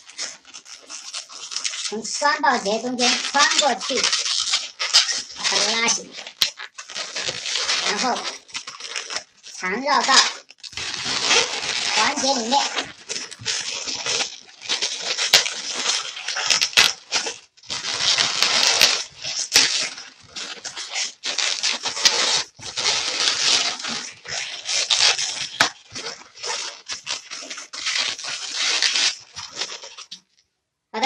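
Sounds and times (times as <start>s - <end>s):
balloons squeaking and rubbing: 0.0s - 30.4s.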